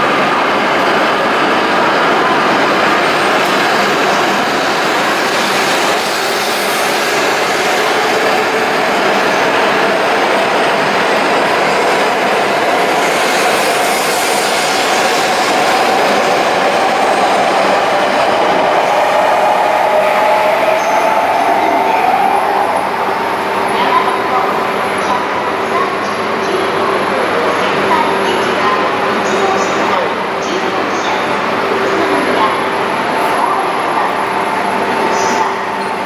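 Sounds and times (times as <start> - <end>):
train rushing past: 0.0 - 36.0.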